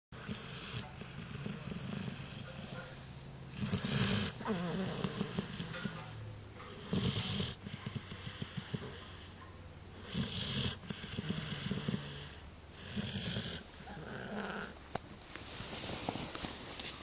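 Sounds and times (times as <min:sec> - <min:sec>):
dog snoring: 0:00.2 - 0:09.4, 0:10.0 - 0:14.8.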